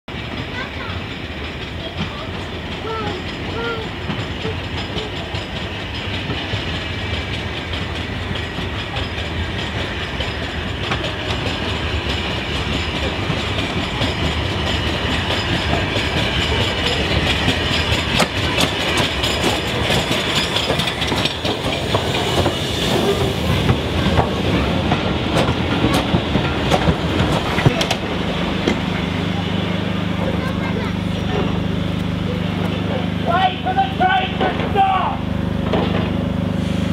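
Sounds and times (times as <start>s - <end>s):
wheels clattering over rail joints: 0.1s - 36.4s
steam train rumble: 0.1s - 36.9s.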